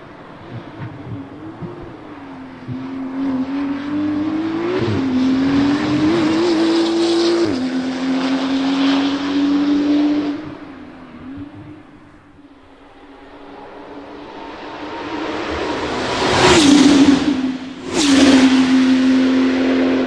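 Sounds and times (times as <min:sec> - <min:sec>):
sports car accelerating hard: 0:00.0 - 0:20.0.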